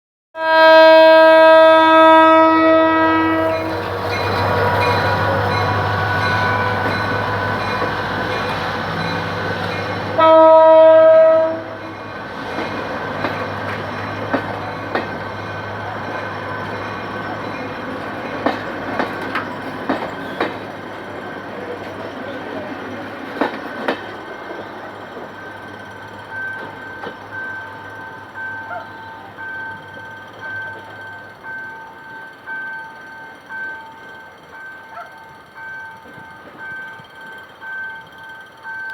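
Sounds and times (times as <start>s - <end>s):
locomotive engine drone: 1.1s - 38.9s.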